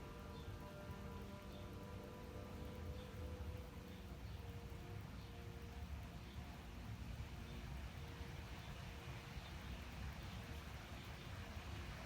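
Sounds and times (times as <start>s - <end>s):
distant city traffic rumble: 0.0s - 12.0s
outdoor air hiss: 0.0s - 12.0s.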